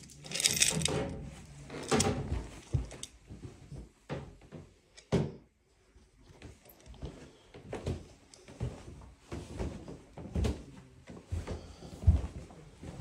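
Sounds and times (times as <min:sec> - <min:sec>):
footsteps on carpeted stairs: 0:01.3 - 0:05.4, 0:06.2 - 0:13.0.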